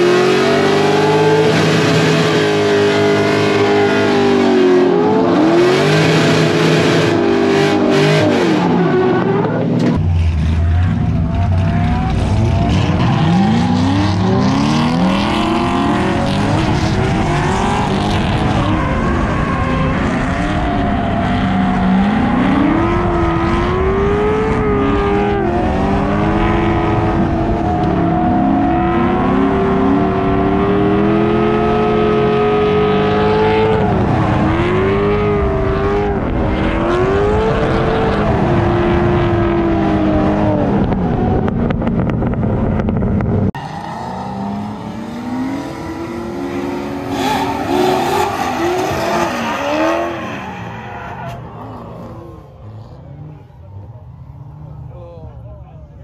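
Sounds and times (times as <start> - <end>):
car engine revving hard: 0.0 - 42.2, 43.5 - 51.0
tires spinning: 0.0 - 55.0.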